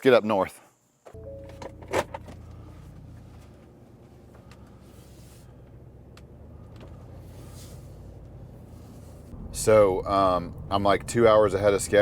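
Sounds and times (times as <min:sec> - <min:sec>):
truck engine hum inside cab: 0:01.2 - 0:12.0.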